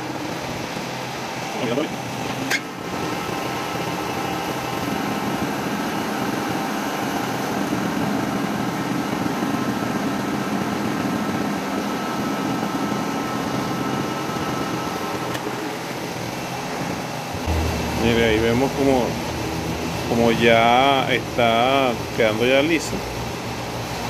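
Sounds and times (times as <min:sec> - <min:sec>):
metal lathe running: 0:00.0 - 0:24.0.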